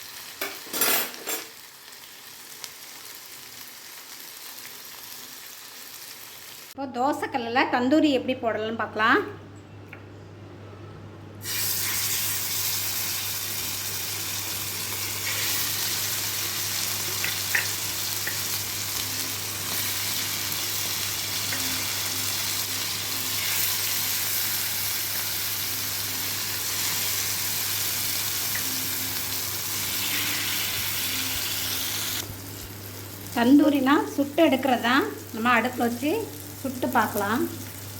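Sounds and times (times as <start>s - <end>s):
chicken sizzling in hot oil: 0.0s - 6.8s, 11.4s - 37.9s.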